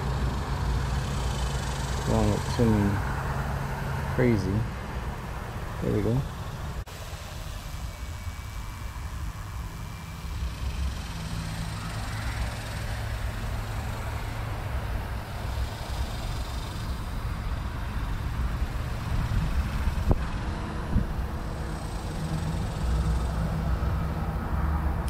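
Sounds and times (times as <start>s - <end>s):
low rumble with hiss: 0.0s - 25.0s.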